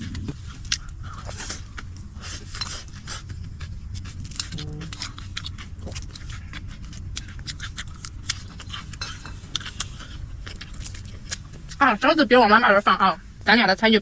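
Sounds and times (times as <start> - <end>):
chewing noodles: 0.0 - 11.9
low steady hum: 0.0 - 14.0.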